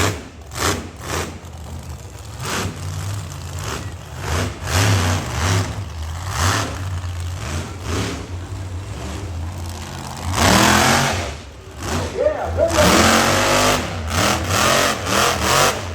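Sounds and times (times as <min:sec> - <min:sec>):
truck engine revving: 0:00.0 - 0:15.9.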